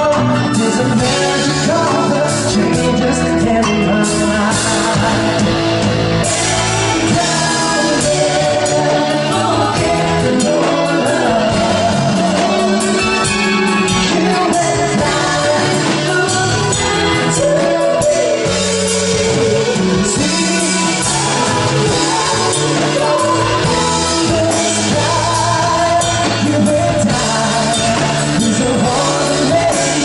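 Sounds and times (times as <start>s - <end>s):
band playing with singer: 0.0s - 30.0s.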